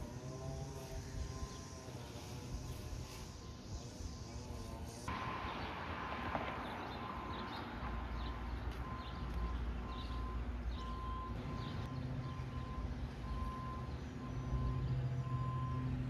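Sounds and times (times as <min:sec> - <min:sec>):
birds chirping: 0:01.2 - 0:16.0.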